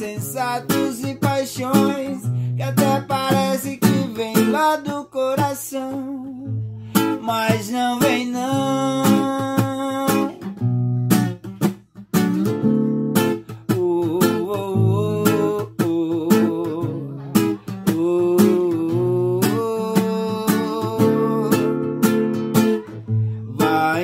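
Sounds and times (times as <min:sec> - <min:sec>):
acoustic guitar strumming: 0:00.0 - 0:24.0
held melody line: 0:00.0 - 0:24.0.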